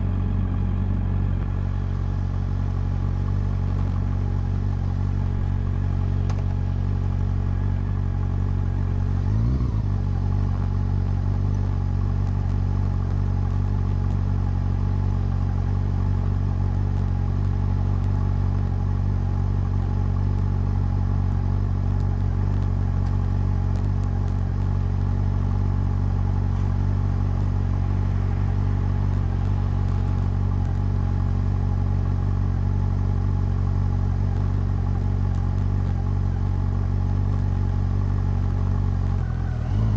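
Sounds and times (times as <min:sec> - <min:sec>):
motorcycle engine exhaust: 0:00.0 - 0:39.9.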